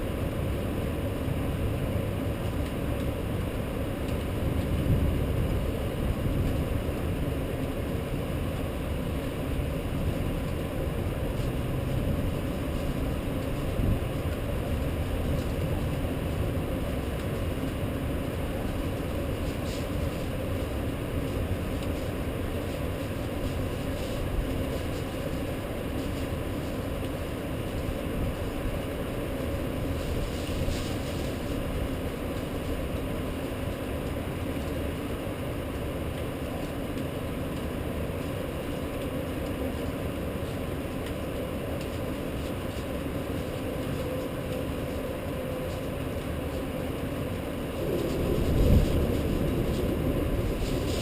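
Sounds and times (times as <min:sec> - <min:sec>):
rainstorm rumbling: 0:00.0 - 0:51.0.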